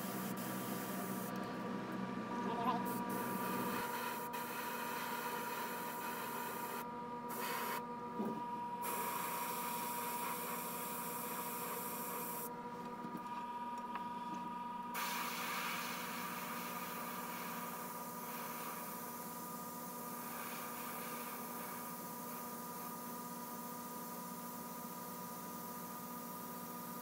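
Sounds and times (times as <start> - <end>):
airbrush hissing: 0.0 - 1.3, 2.9 - 7.8, 8.8 - 12.5, 15.0 - 27.0
steady hum: 0.0 - 27.0.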